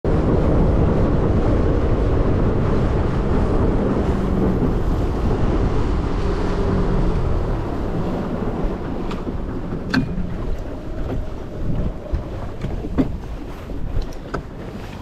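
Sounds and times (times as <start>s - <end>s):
low motor hum: 0.0s - 15.0s
water rushing along hull: 0.0s - 15.0s
wind buffeting microphone: 0.0s - 15.0s.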